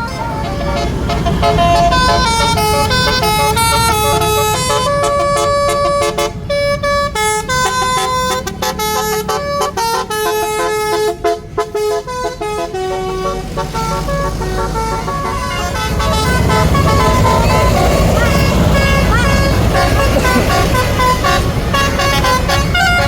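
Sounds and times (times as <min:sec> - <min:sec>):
bus horn playing a tune: 0:00.0 - 0:23.0
low engine rumble: 0:00.0 - 0:23.0.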